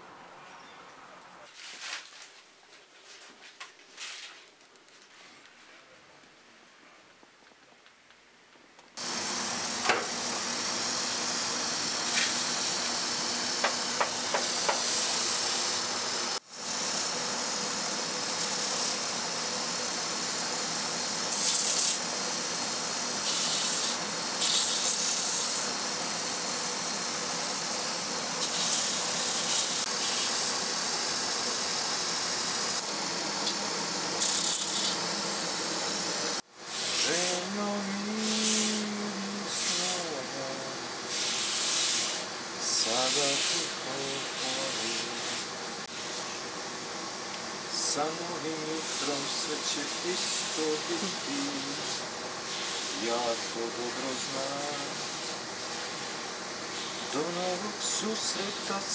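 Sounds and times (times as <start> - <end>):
heel sanding hiss: 9.0 - 46.5, 48.0 - 57.6
machine motor humming: 9.0 - 56.6.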